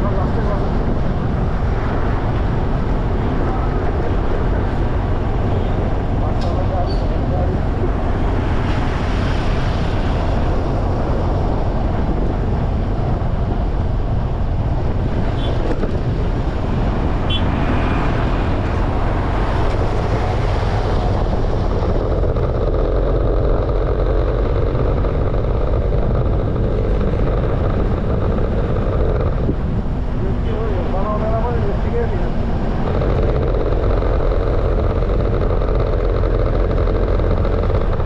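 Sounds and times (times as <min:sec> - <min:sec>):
traffic noise: 0:00.0 - 0:38.0
wind rumble on microphone: 0:00.0 - 0:38.0.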